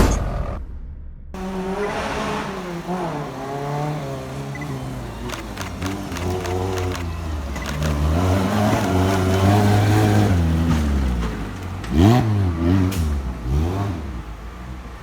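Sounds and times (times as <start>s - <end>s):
off-road vehicle engine revving: 1.4s - 15.0s.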